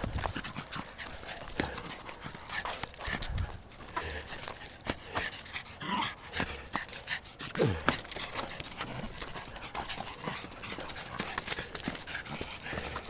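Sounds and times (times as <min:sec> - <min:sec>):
dog panting and snuffling: 0:00.0 - 0:13.0.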